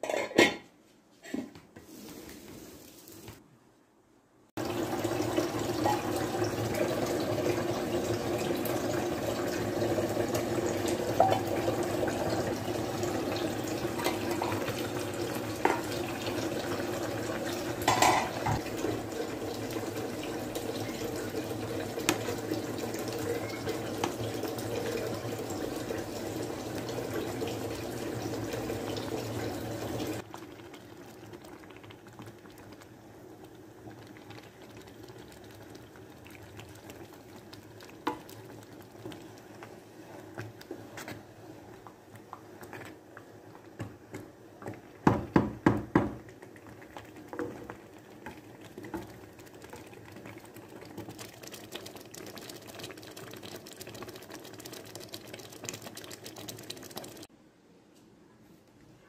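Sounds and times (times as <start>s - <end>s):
fruit boiling in a pot: 4.3s - 57.4s.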